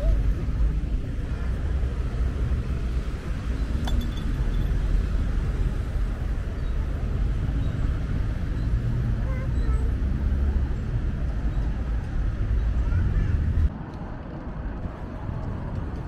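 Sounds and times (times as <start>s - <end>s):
city street low rumble: 0.0s - 16.0s.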